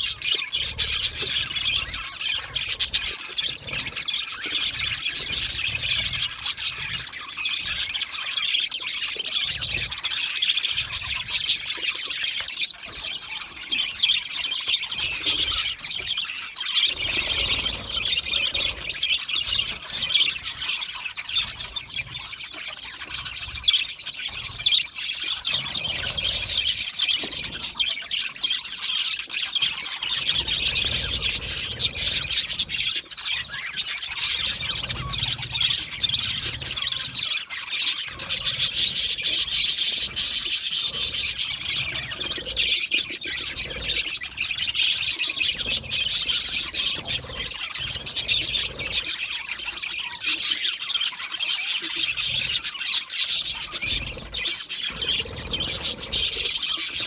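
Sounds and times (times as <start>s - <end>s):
budgerigars chattering: 0.0s - 57.0s.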